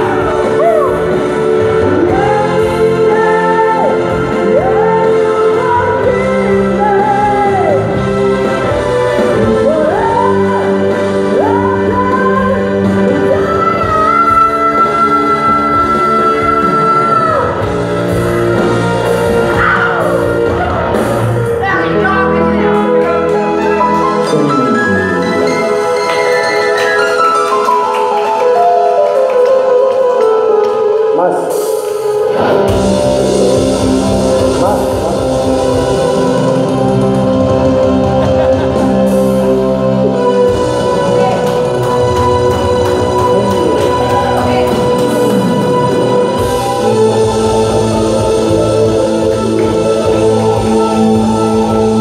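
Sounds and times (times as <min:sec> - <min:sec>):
electric guitar chords: 0:00.0 - 0:52.0
live band: 0:00.0 - 0:52.0.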